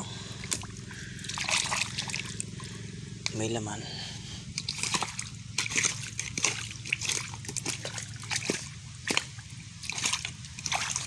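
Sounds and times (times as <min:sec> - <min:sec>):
stream water splashing: 0:00.0 - 0:11.0.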